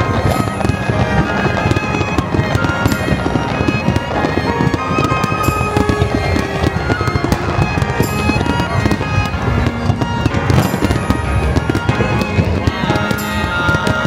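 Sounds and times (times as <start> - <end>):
fireworks popping and crackling: 0.0 - 14.0
music with held notes: 0.0 - 14.0.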